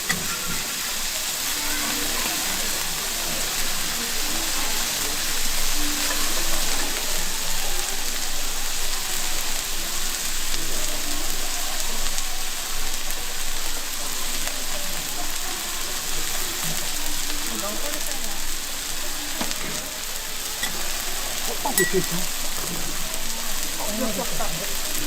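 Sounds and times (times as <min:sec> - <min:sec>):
steak sizzling in a pan: 0:00.0 - 0:25.0.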